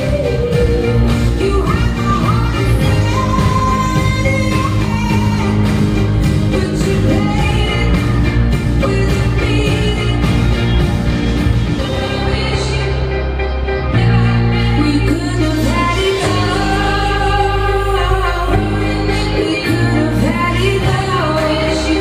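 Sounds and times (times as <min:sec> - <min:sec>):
pop song with singing: 0:00.0 - 0:22.0.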